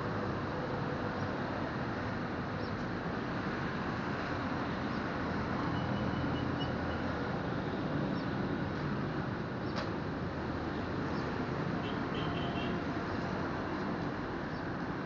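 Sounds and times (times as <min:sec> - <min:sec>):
street noise with engine hum: 0:00.0 - 0:15.0.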